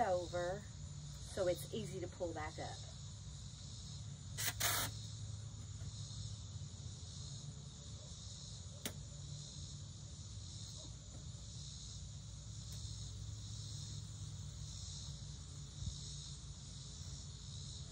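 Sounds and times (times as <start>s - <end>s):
insects chirping: 0.0s - 17.9s.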